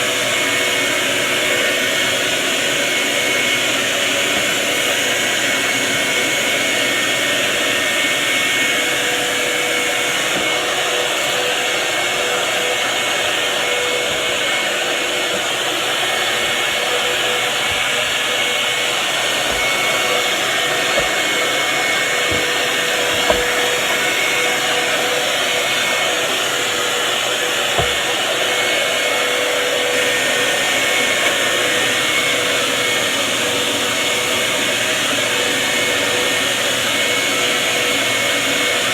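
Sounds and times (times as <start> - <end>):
vacuum cleaners running: 0.0 - 38.9.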